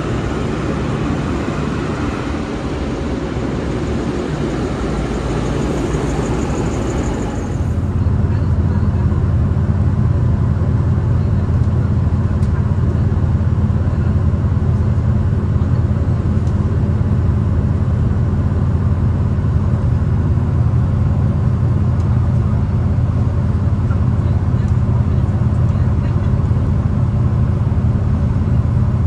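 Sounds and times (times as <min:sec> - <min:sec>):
train engine and wheels rumbling: 0:00.0 - 0:29.0.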